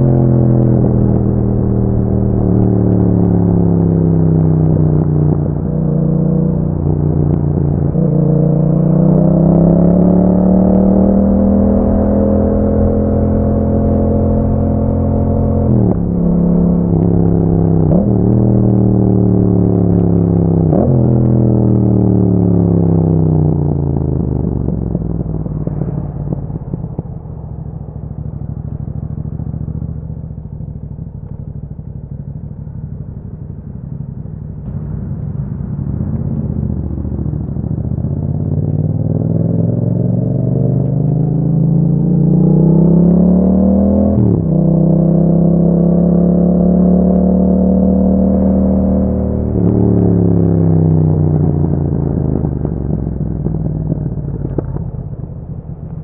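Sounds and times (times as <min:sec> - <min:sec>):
motorcycle engine climbing: 0:00.0 - 0:56.0.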